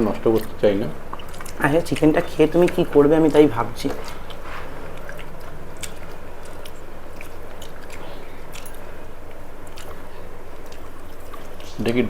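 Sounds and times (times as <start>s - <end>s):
low hum: 0.0s - 12.0s
mouth clicks: 0.0s - 12.0s
person chewing food: 0.0s - 12.0s.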